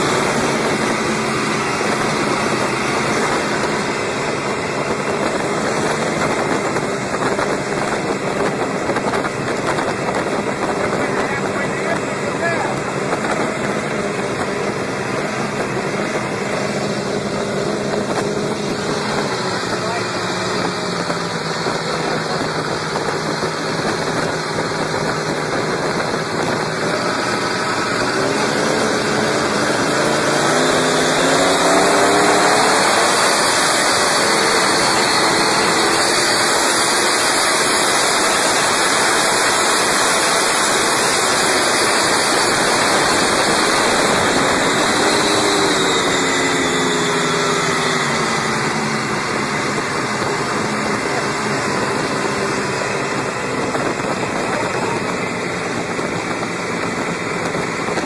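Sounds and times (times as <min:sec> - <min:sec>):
speedboat engine revving: 0:00.0 - 0:58.0.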